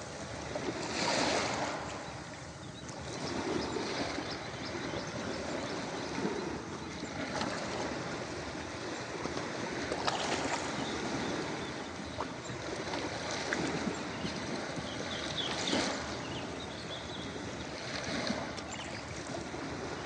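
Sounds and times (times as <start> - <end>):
ocean waves on a beach: 0.0 - 20.0.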